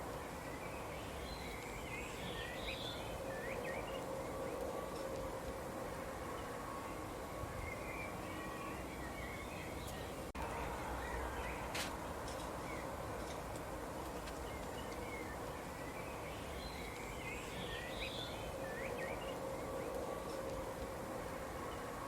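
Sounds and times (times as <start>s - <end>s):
small birds chirping: 0.0s - 13.4s, 14.0s - 22.0s
outdoor background hiss: 0.0s - 22.0s.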